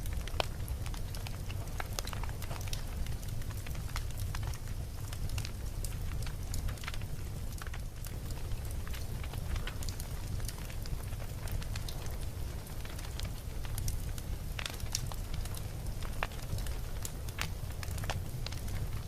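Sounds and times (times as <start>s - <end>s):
campfire flames rumbling: 0.0s - 19.0s
wood crackling and popping: 0.0s - 19.0s.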